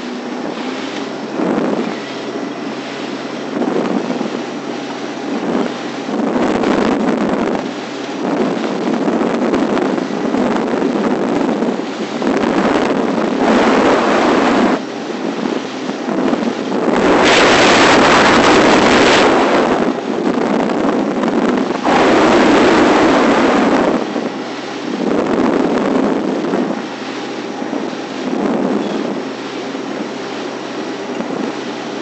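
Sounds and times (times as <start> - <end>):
gusty wind buffeting microphone: 0.0 - 32.0.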